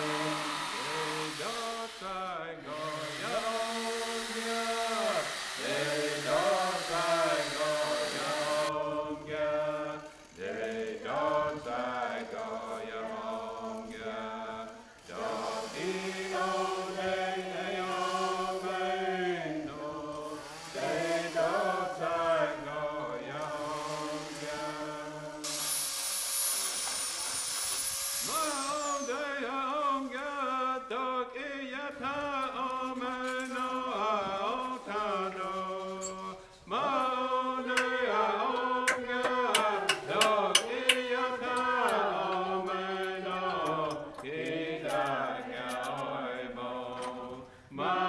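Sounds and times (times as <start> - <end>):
chanted singing: 0.0 - 25.5, 28.3 - 48.0.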